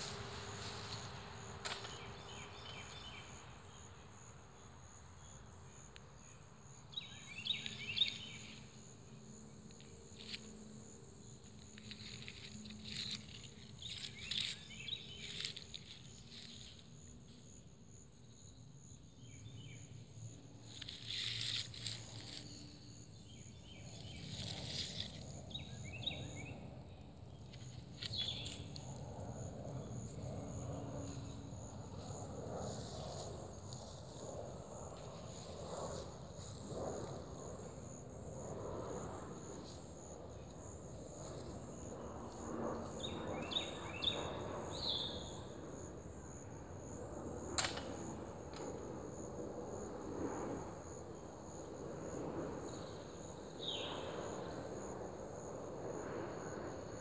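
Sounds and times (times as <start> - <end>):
pulsing insect trill: 0.0 - 57.0.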